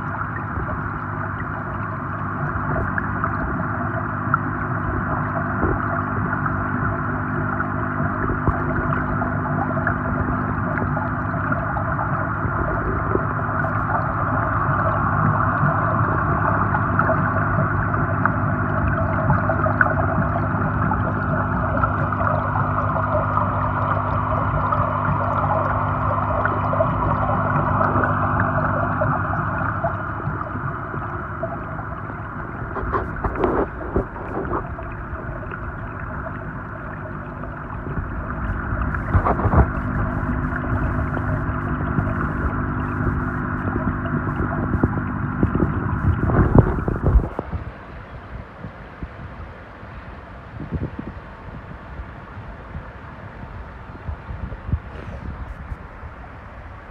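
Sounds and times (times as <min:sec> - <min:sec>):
underwater hiss and gurgle: 0:00.0 - 0:49.4, 0:54.2 - 0:56.1
low steady hum: 0:00.0 - 0:56.9.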